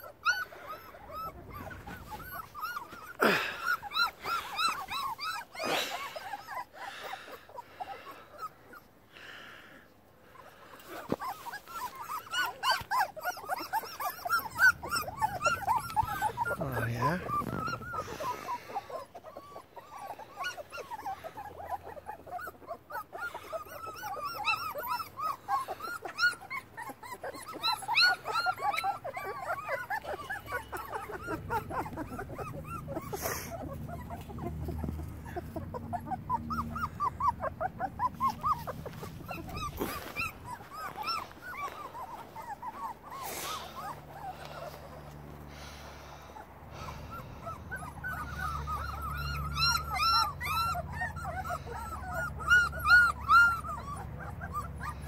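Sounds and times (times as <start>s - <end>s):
puppies whimpering and yipping: 0.0s - 55.0s.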